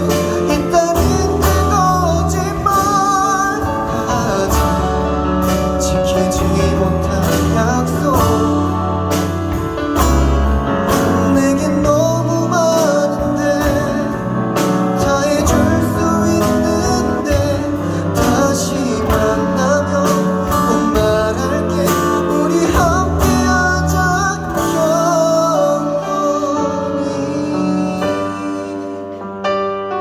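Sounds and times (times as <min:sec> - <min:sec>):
person singing: 0:00.0 - 0:29.6
band accompaniment: 0:00.0 - 0:30.0.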